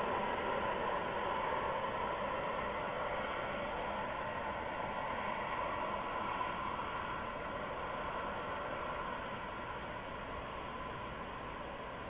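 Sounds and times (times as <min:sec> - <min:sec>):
hiss of night ambience: 0:00.0 - 0:12.0.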